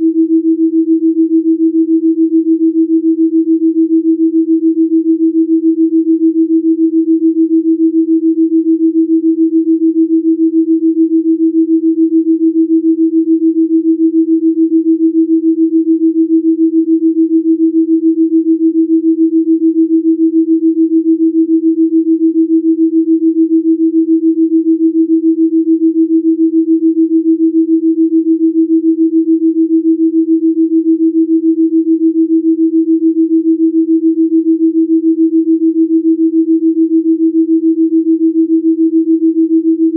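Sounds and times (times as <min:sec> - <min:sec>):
pulsing electronic sine tone: 0:00.0 - 0:39.9.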